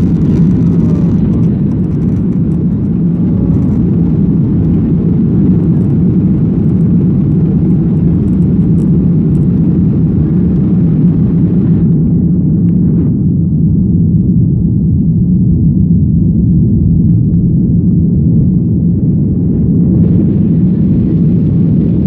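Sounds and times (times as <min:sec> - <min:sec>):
jet engines at high thrust: 0:00.0 - 0:22.0.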